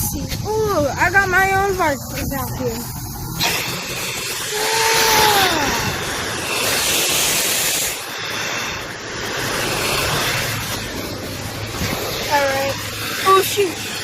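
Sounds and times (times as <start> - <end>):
vacuum hose suction: 1.8 - 14.0.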